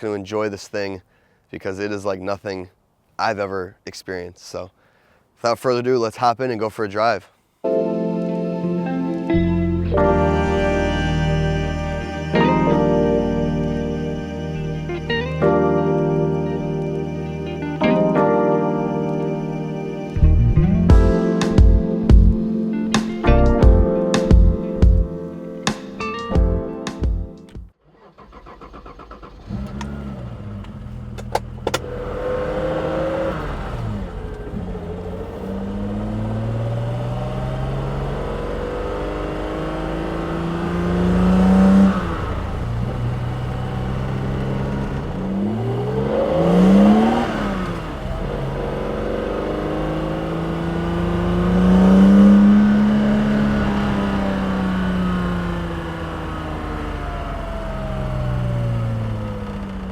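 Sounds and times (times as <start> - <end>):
car engine accelerating: 7.7 - 25.8, 28.0 - 59.9.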